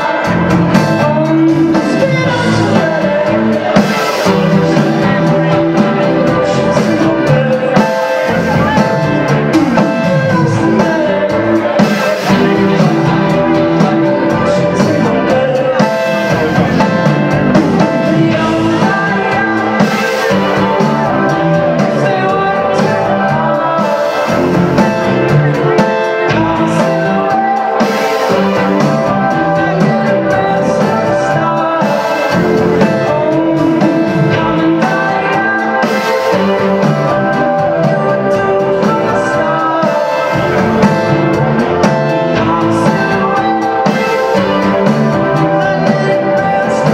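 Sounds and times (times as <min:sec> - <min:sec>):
person singing: 0:00.0 - 0:46.9
rock band playing live: 0:00.0 - 0:46.9.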